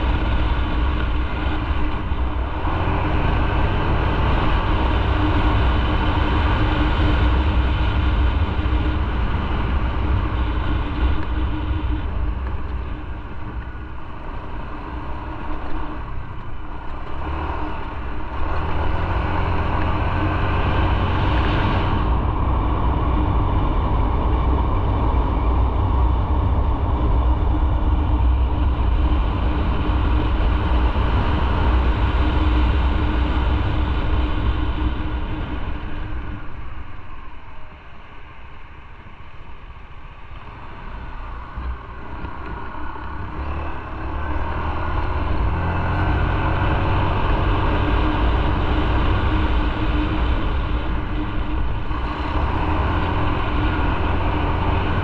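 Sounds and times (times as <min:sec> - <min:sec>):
motorcycle engine running: 0:00.0 - 0:37.8, 0:40.3 - 0:55.0
road and riding noise: 0:00.0 - 0:55.0.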